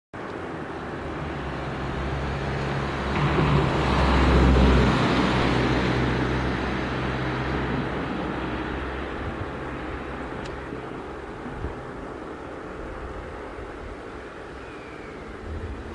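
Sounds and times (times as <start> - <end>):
road vehicle passing: 0.2 - 15.9.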